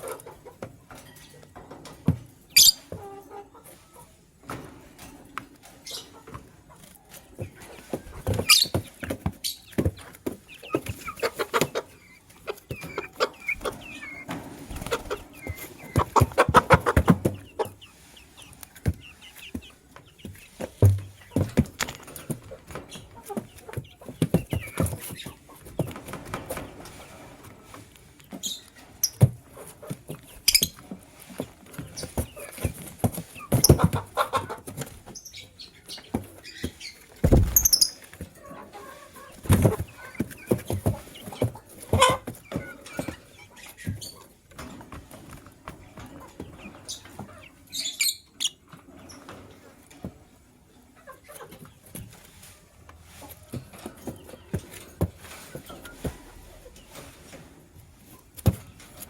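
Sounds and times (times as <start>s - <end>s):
birds chirping and clicking: 0.0s - 59.0s.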